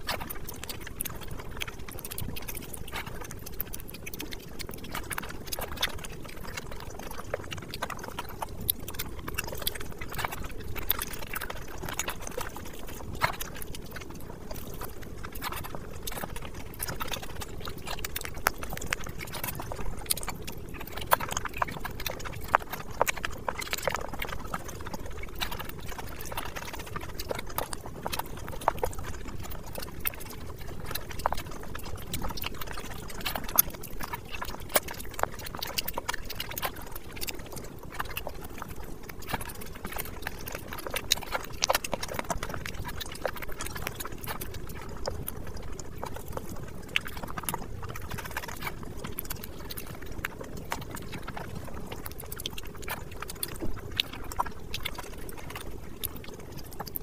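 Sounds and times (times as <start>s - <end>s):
small mouth clicks and squishes: 0.0s - 57.0s
wet chewing and lip-smacking: 0.0s - 57.0s.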